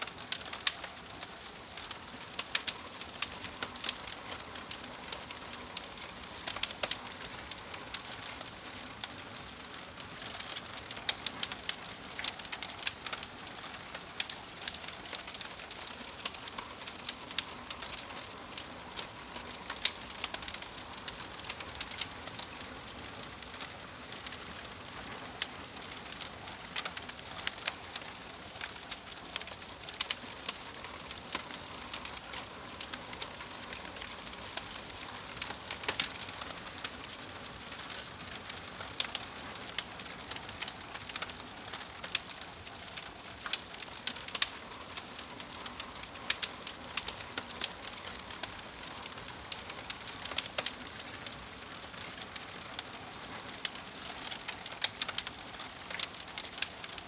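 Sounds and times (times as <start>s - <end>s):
fire hissing: 0.0s - 57.0s
fire popping and snapping: 0.0s - 57.0s.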